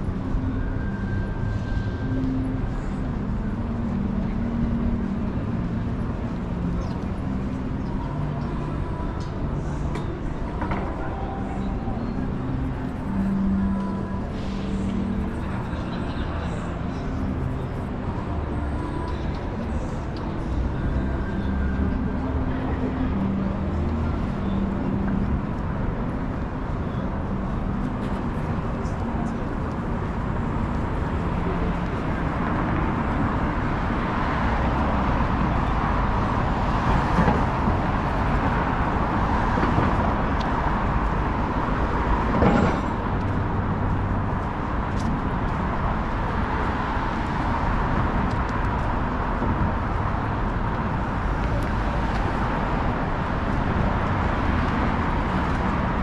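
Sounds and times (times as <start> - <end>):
traffic of passing cars: 0.0 - 56.0.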